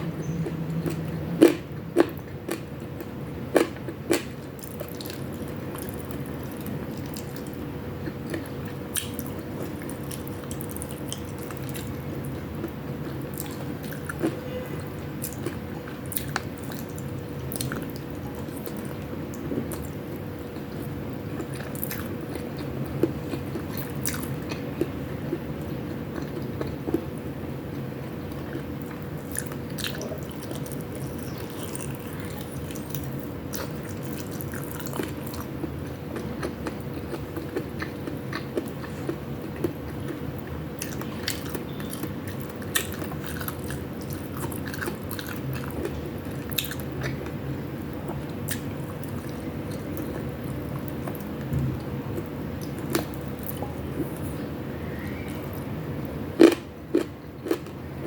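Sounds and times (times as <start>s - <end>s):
faint steady hum: 0.0s - 58.0s
biting and chewing food: 0.2s - 54.4s, 56.4s - 57.8s.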